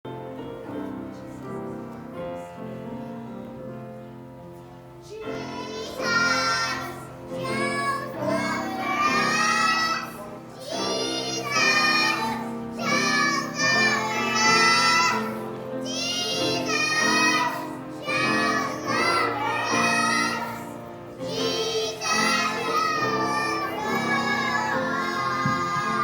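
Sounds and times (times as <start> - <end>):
music: 0.1 - 26.0.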